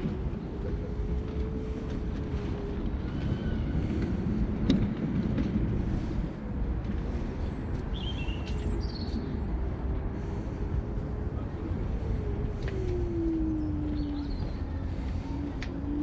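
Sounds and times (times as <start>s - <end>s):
tyre and wind noise: 0.0s - 16.0s.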